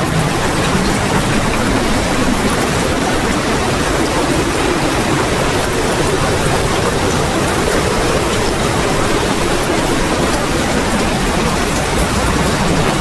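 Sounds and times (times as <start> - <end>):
torrential rain: 0.0 - 13.0.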